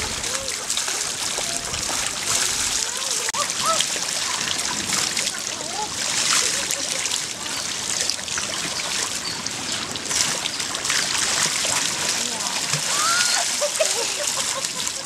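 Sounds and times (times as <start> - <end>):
child splashing in pool water: 0.0 - 15.0.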